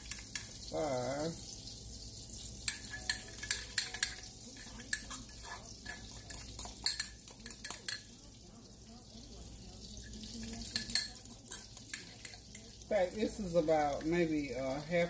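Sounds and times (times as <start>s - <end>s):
spoon clinking on dish and pan: 0.0s - 1.6s, 2.5s - 8.4s, 10.0s - 14.8s
pancakes sizzling in oil: 0.0s - 15.0s.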